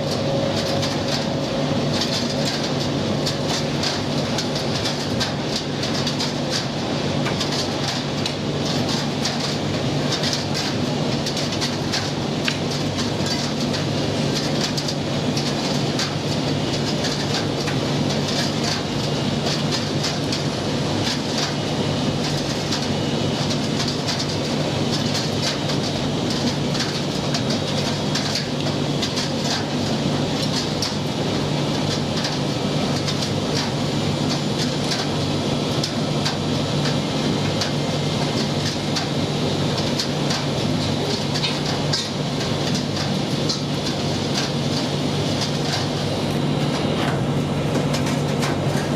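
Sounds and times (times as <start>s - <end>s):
tumble dryer hum: 0.0s - 48.9s.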